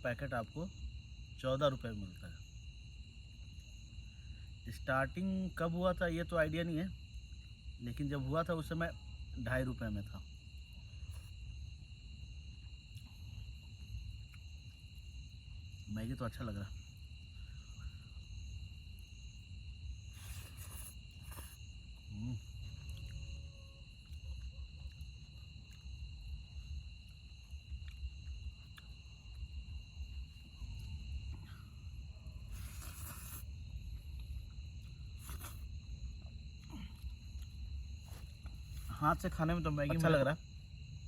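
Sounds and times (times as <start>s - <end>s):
crickets trilling: 0.0s - 41.0s
pulsing insect chirp: 0.0s - 41.0s.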